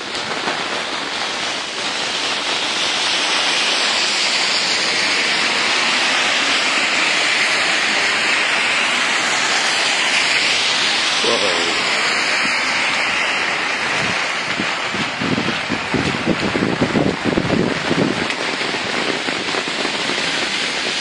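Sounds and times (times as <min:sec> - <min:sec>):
heavy rain on pavement: 0:00.0 - 0:21.0.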